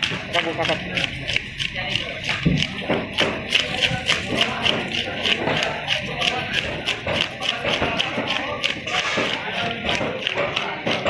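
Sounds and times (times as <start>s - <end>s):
fish scaler scraping scales: 0.0s - 11.0s.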